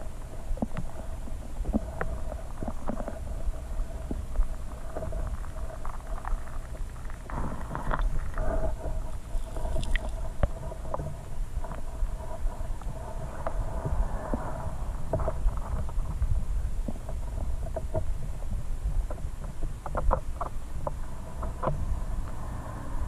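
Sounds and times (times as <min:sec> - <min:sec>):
small clicks and ticks: 0:00.0 - 0:13.6, 0:15.1 - 0:22.4
underwater stream rumble: 0:00.0 - 0:23.0.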